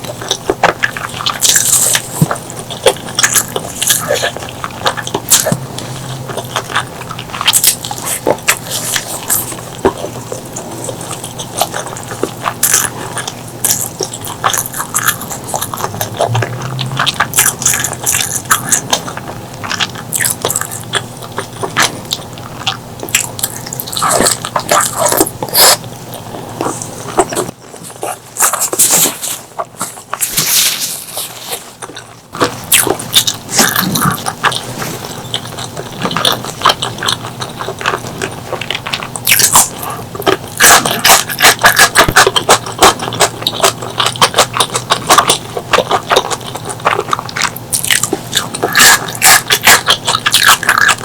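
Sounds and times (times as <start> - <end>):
close chewing and biting: 0.0 - 51.0.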